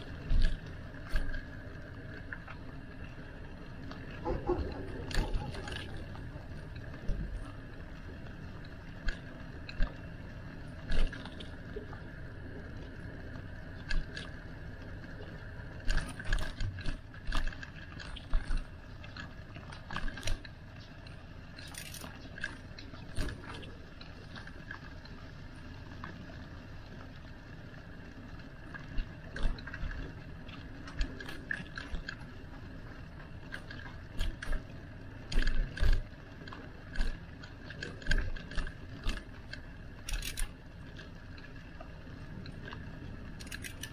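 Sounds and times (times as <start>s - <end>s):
bicycle clicks and rattles: 0.0s - 43.9s
bicycle rolling noise: 0.0s - 43.9s.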